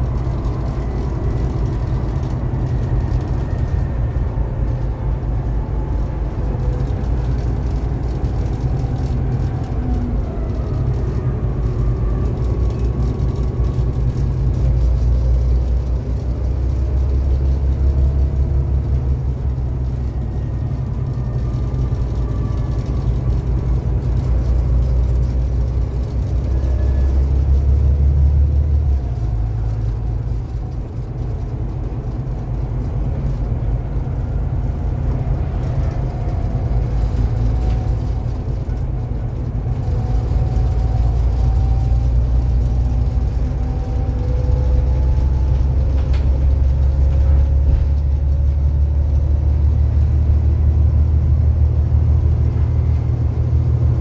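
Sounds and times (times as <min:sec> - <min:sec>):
bus engine droning: 0:00.0 - 0:54.0
road and body noise: 0:00.0 - 0:54.0.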